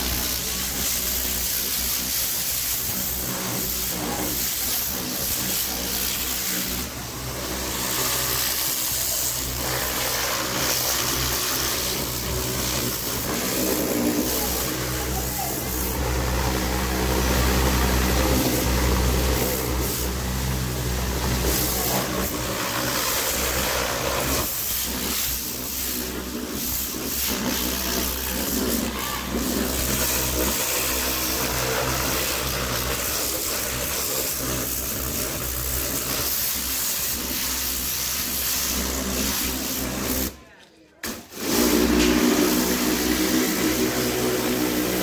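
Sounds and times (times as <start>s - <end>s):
pressure washer motor humming: 0.0s - 40.4s, 41.0s - 45.0s
water jet hissing: 0.0s - 40.4s, 41.0s - 45.0s.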